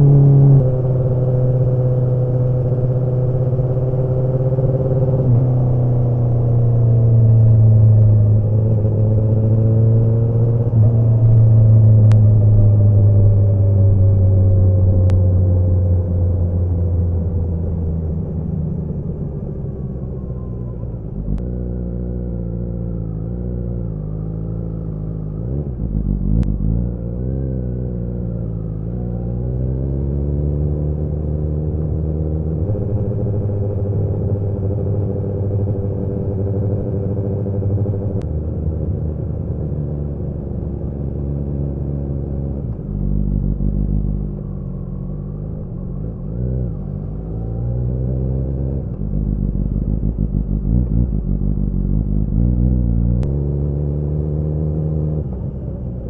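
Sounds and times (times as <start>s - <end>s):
motorcycle engine running: 0.0s - 23.2s, 31.3s - 46.3s, 48.5s - 56.0s.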